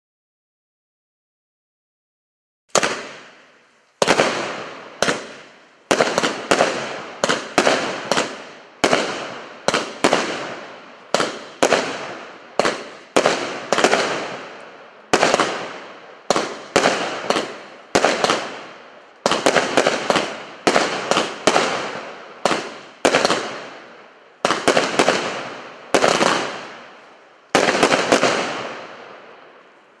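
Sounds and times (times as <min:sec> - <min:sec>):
fireworks firing shots: 0:02.7 - 0:29.7.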